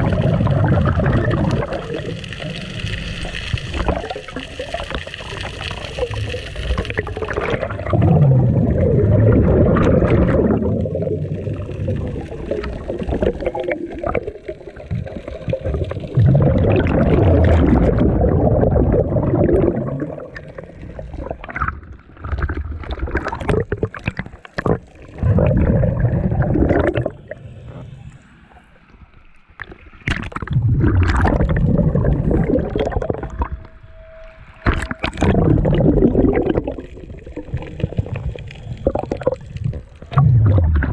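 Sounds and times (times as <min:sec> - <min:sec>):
muffled underwater regulator bubbling: 0:00.0 - 0:28.2, 0:29.6 - 0:33.8, 0:34.6 - 0:40.9.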